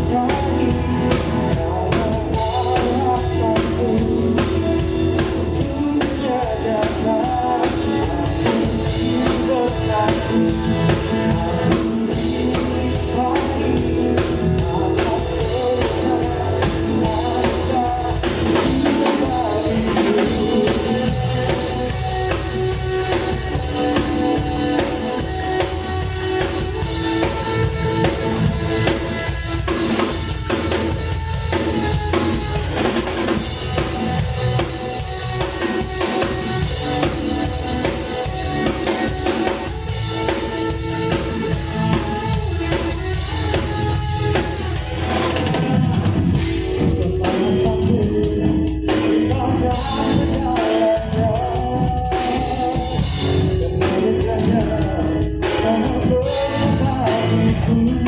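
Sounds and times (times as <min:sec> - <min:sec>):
worship band playing pop-rock: 0:00.0 - 0:58.0.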